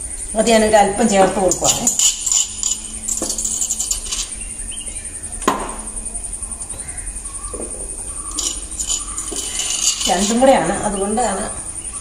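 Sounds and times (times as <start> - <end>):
light metallic jingling: 1.0 - 12.0.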